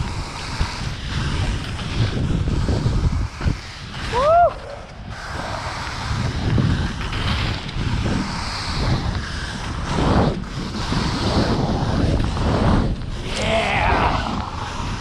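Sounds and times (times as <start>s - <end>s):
skis rushing through powder snow: 0.0s - 15.0s
wind buffeting microphone: 0.0s - 15.0s.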